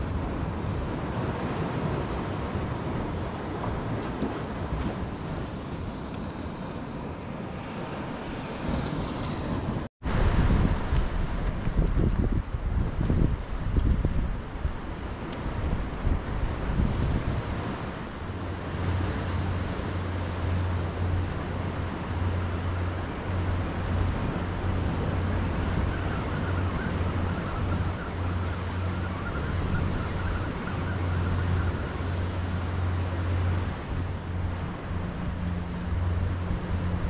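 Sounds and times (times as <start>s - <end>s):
motorboat engine drone: 0.0s - 37.0s
wind on microphone: 0.0s - 37.0s.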